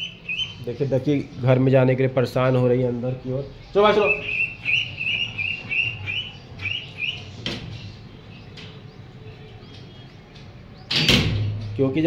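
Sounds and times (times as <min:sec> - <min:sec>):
bird peeping rapidly: 0:00.0 - 0:11.0.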